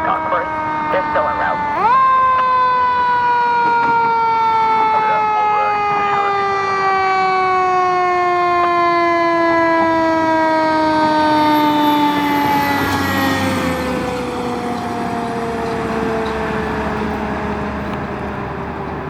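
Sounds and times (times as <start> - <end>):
fire engine siren wailing: 0.0 - 19.0.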